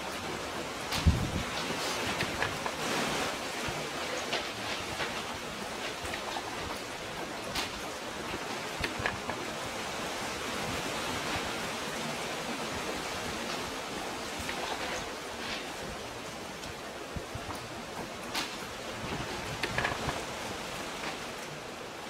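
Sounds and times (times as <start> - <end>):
water rushing in sea cove: 0.0 - 22.0.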